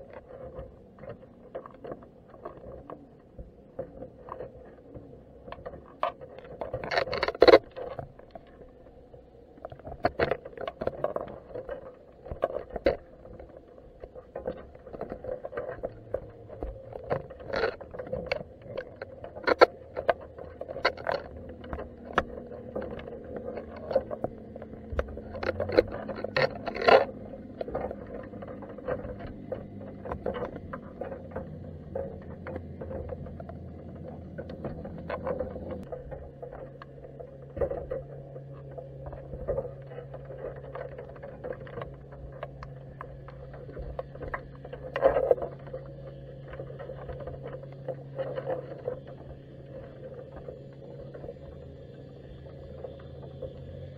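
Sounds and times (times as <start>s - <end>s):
deep steady drone: 0.0s - 53.9s
steady hum: 1.8s - 53.9s.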